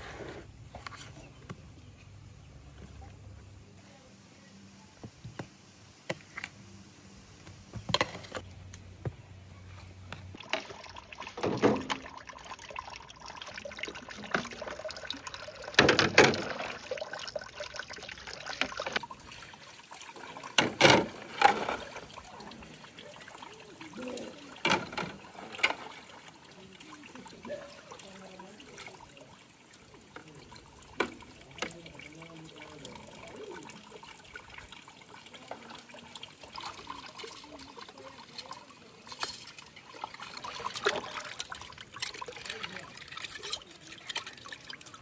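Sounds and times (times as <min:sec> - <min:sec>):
water splashing and trickling: 0:00.0 - 0:45.0.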